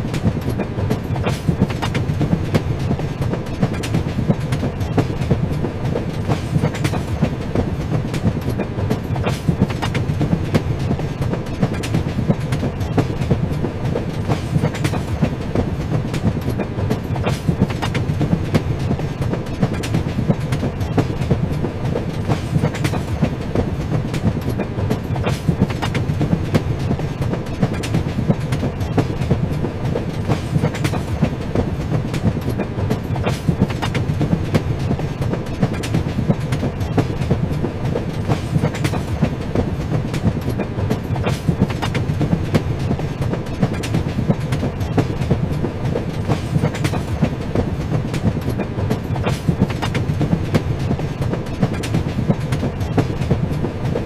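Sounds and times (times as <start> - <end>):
train rumbling on rails: 0.0 - 54.0
wheels clicking over rail joints: 0.0 - 54.0.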